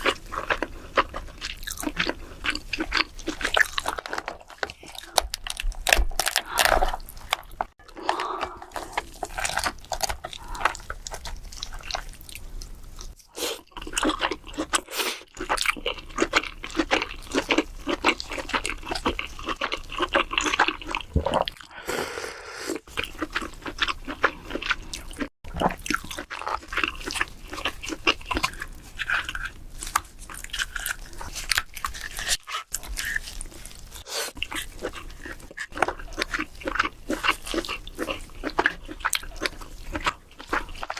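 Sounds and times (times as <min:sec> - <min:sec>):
chewing and crunching: 0:00.0 - 0:21.8, 0:22.7 - 0:40.9.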